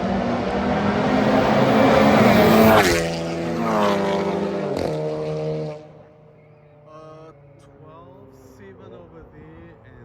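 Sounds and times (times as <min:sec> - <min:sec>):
drag racing car passing: 0:00.0 - 0:10.0.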